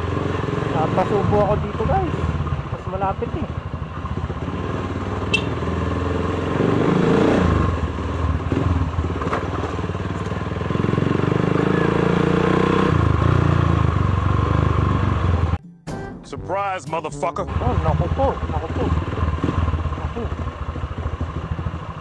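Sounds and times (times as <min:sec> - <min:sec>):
motorcycle engine at low speed: 0:00.0 - 0:15.6, 0:17.5 - 0:22.0.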